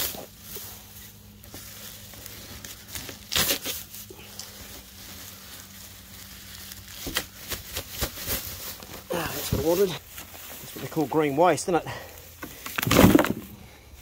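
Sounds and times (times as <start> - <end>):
weeds rustling and tearing: 0.0 - 14.0.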